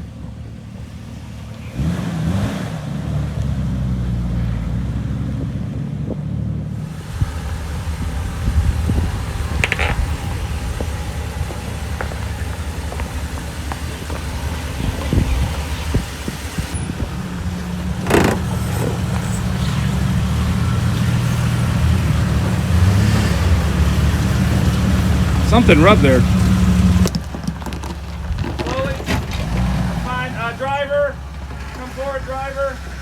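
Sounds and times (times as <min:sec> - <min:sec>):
off-road vehicle engine running: 0:00.0 - 0:33.0.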